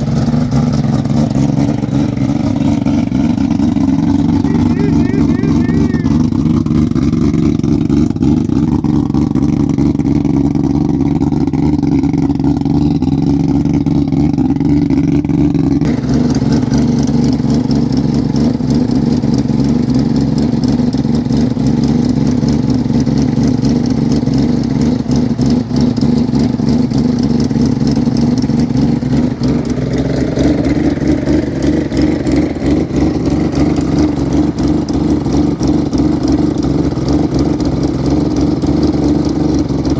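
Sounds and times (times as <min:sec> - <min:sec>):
car engine running and revving: 0:00.0 - 0:39.9.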